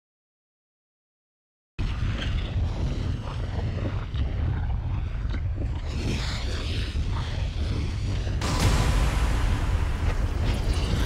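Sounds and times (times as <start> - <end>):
deep rumbling wind-like noise: 1.8 - 11.0.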